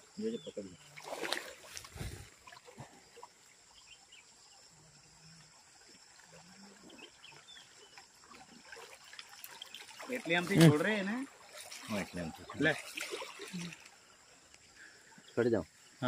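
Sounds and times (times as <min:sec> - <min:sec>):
faint flowing stream: 0:00.0 - 0:16.0.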